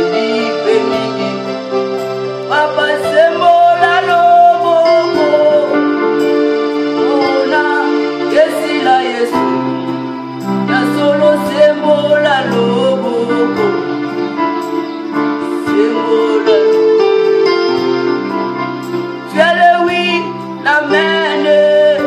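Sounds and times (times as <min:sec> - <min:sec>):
person singing with vibrato: 0:00.0 - 0:22.0
sustained keyboard chords: 0:00.0 - 0:22.0.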